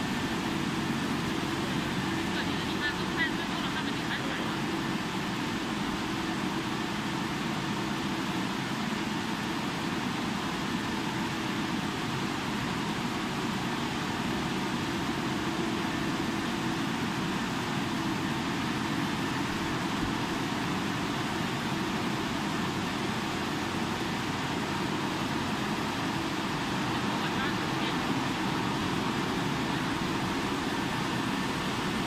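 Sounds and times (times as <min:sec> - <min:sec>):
car wash brushes whirring: 0:00.0 - 0:32.0.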